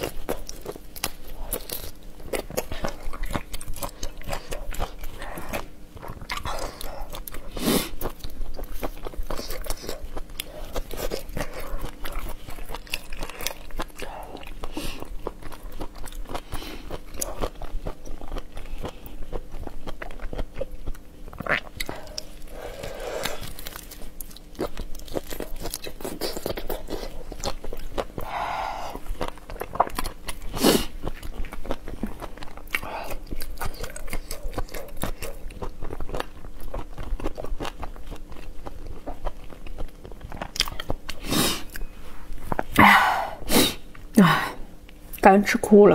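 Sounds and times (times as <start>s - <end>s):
shrimp being bitten and chewed: 0.0s - 42.8s.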